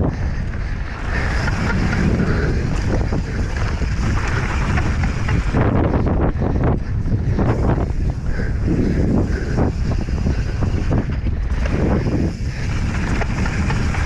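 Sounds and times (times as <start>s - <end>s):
mountain bike rattling: 0.0s - 14.0s
wind buffeting microphone: 0.0s - 14.0s.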